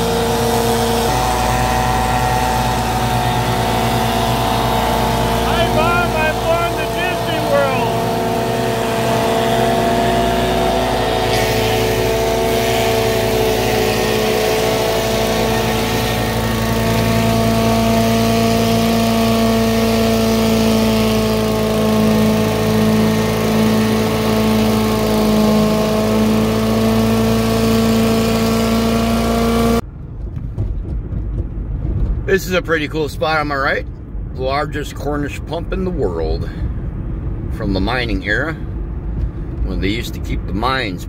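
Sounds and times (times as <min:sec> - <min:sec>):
machine engine running steadily: 0:00.0 - 0:32.3, 0:38.6 - 0:40.4.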